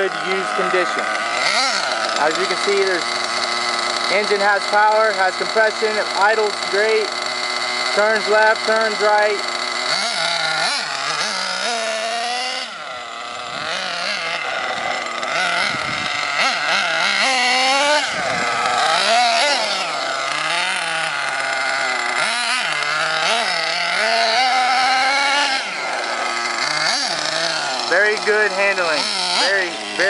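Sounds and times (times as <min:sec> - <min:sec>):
nitro engine revving: 0:00.0 - 0:30.0.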